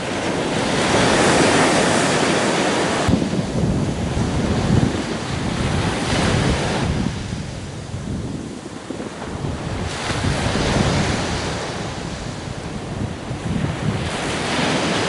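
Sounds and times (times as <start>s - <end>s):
surf washing over sand: 0.0s - 15.0s
wind buffeting microphone: 0.0s - 15.0s.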